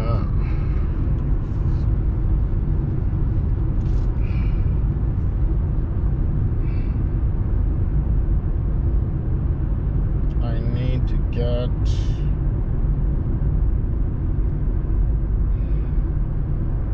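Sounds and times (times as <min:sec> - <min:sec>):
car engine and road noise: 0:00.0 - 0:16.9.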